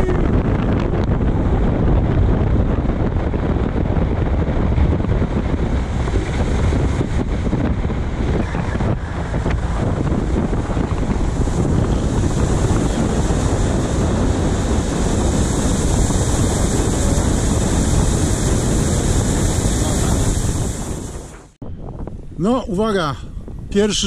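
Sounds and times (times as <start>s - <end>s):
water rushing past boat hull: 0.0s - 21.6s
wind buffeting microphone: 0.0s - 24.0s.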